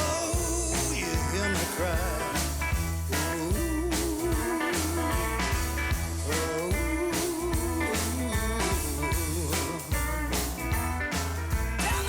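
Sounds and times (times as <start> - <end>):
electric guitar: 0.0 - 12.0
repeating bass riff: 0.0 - 12.0.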